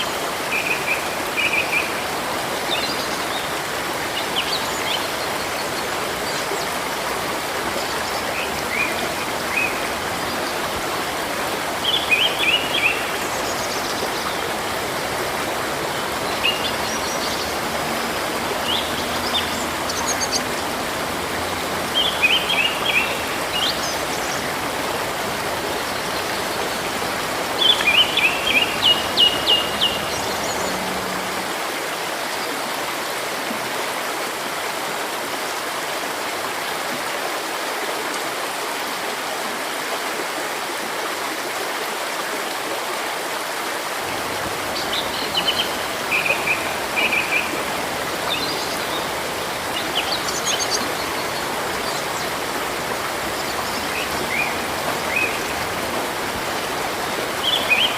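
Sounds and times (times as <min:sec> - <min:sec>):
flowing river water: 0:00.0 - 0:57.9.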